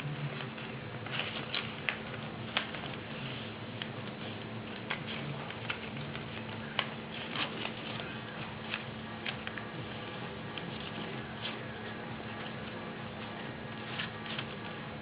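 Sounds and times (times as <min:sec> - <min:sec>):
paper folding and crinkling: 0:00.1 - 0:15.0.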